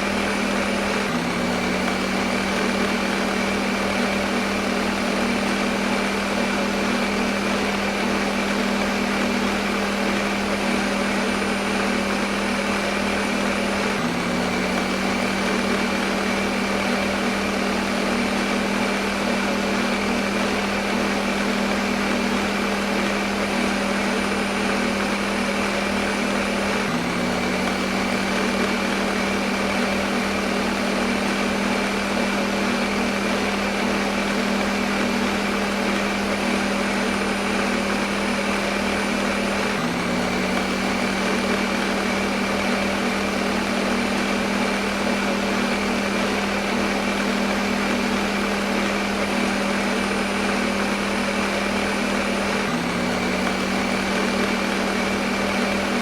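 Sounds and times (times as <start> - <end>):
blender motor whirring: 0.0 - 56.0.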